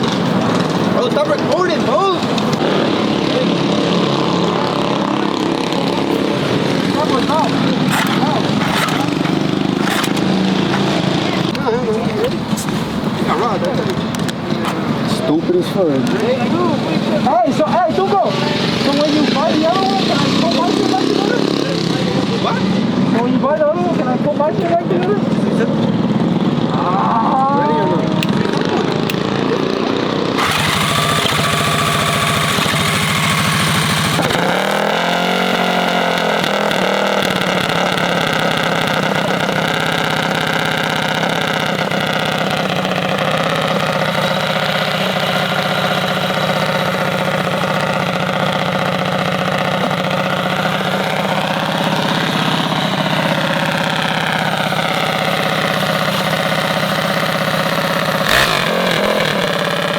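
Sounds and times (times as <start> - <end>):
mini bike engine idling: 0.0 - 59.9.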